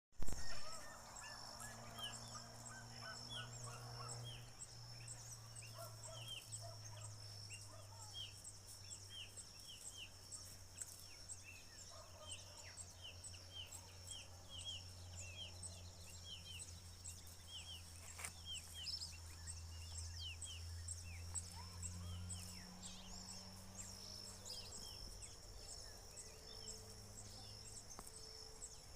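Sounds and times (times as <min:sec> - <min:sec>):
birds chirping: 0:00.2 - 0:28.9.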